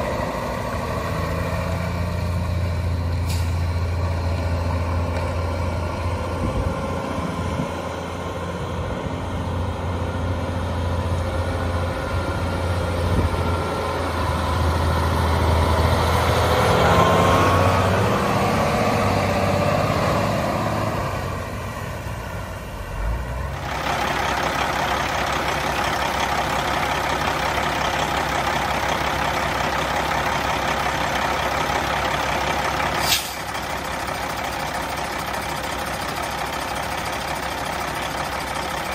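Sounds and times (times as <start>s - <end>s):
diesel engine idling: 0.0s - 38.9s
diesel truck engine running: 0.0s - 38.9s.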